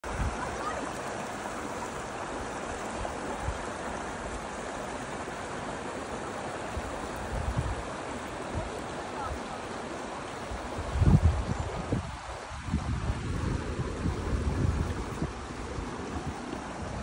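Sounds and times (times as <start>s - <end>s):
stream rushing over logs: 0.0s - 17.0s.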